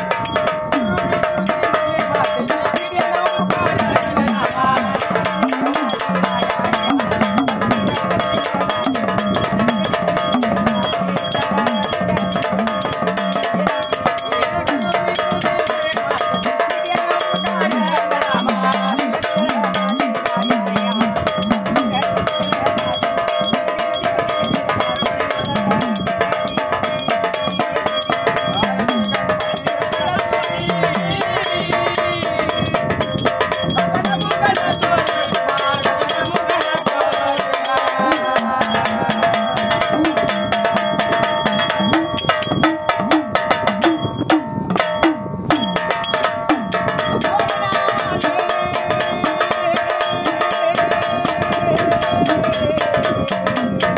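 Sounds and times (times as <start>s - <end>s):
devotional folk music with drumming: 0.0s - 53.9s.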